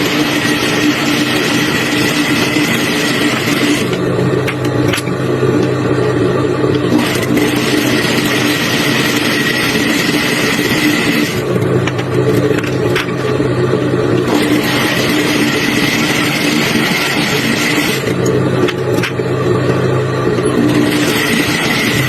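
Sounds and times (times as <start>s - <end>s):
constant machine tones: 0.0s - 22.0s
machinery humming: 0.0s - 22.0s.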